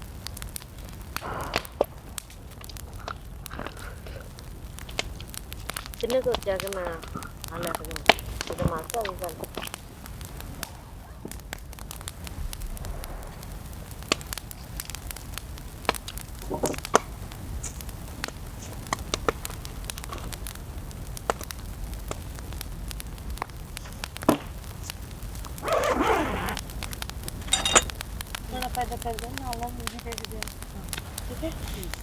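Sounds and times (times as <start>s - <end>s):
campfire crackling and popping: 0.0s - 32.0s
wind rumble: 0.0s - 32.0s.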